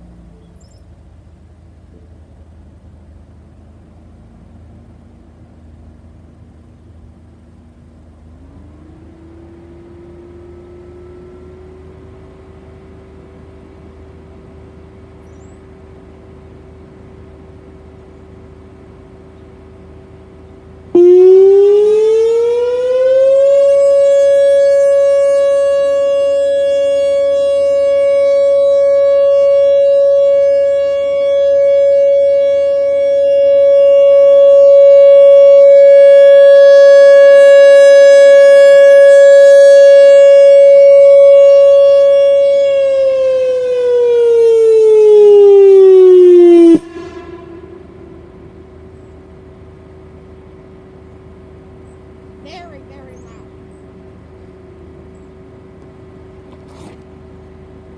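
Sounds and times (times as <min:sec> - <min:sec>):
outdoor warning siren: 0:04.2 - 0:56.5.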